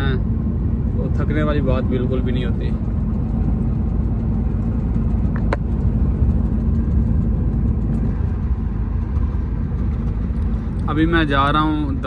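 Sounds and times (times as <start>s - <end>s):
road rumble: 0.0s - 12.0s
truck engine drone: 0.0s - 12.0s.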